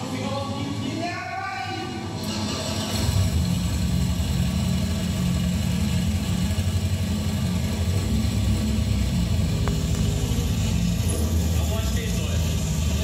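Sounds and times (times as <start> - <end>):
car engine through loudspeakers: 0.0 - 13.0.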